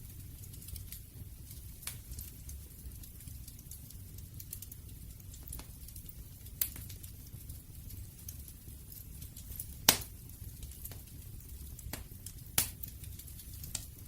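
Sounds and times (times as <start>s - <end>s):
campfire wood crackling: 0.0s - 14.0s
sharp fire pops: 0.0s - 14.0s.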